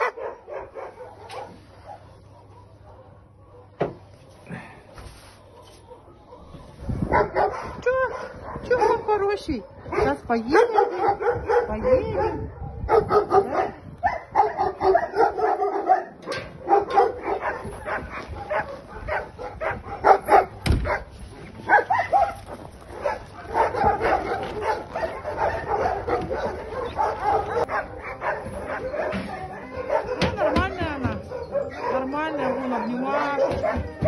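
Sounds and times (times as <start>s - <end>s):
dogs barking and yelping: 0.0s - 4.3s, 5.1s - 34.0s.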